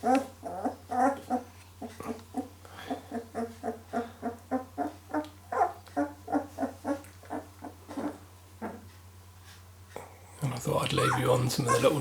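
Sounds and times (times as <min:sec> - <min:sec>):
puppies squeaking and whimpering: 0:00.0 - 0:08.8, 0:10.8 - 0:12.0.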